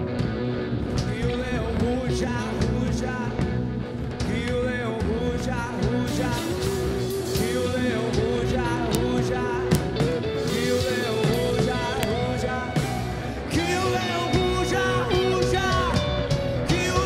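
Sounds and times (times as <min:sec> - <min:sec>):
live rock band playing: 0:00.0 - 0:17.0
person singing: 0:00.9 - 0:17.0.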